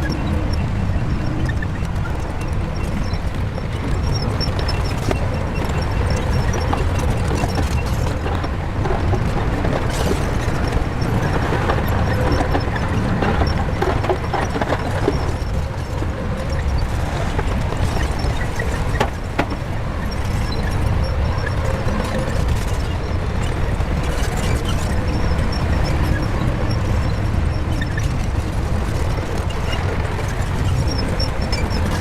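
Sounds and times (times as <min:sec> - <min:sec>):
bulldozer diesel rumble: 0:00.0 - 0:32.0.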